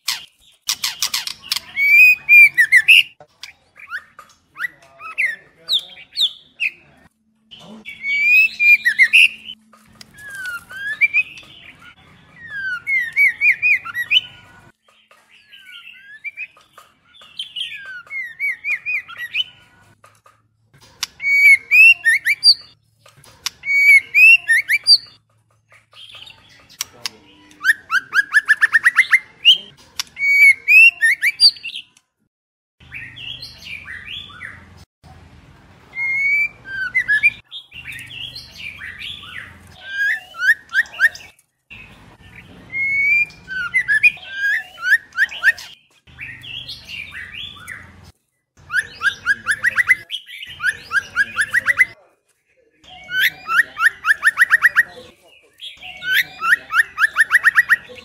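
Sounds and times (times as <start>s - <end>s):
birds calling and singing: 0.0s - 32.2s, 32.8s - 34.9s, 35.6s - 52.1s, 52.8s - 58.0s.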